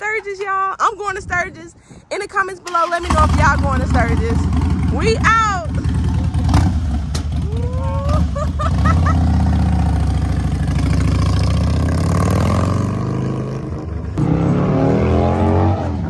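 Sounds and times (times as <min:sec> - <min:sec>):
motorcycle engine rumbling: 0:02.6 - 0:16.0.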